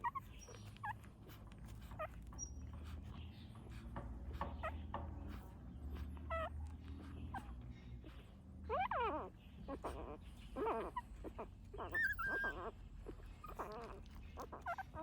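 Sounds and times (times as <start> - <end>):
puppies whimpering: 0.0 - 15.0.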